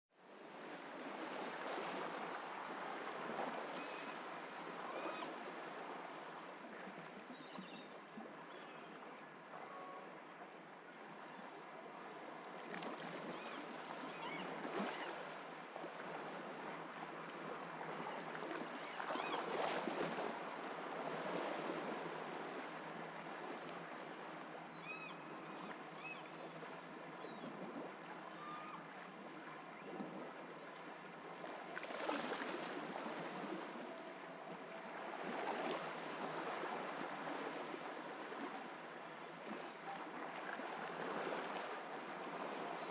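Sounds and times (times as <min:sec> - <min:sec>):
ocean waves on a beach: 0:00.2 - 0:42.9.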